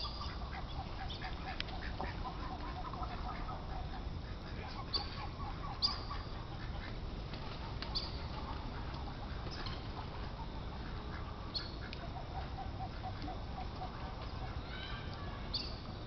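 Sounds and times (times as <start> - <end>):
ducks calling: 0.0 - 15.9
outdoor background noise: 0.0 - 16.0.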